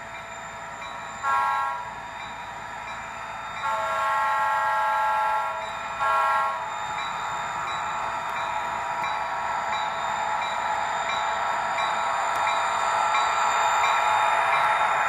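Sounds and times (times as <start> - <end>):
model diesel locomotive drone: 0.0 - 15.0.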